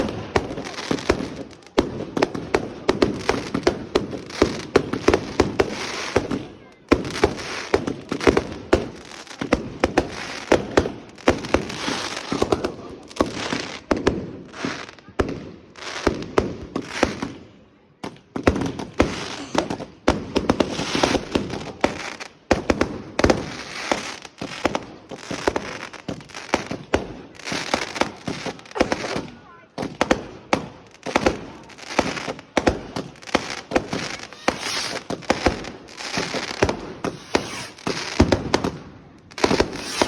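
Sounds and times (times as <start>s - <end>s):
fireworks bangs and crackling: 0.0s - 40.0s.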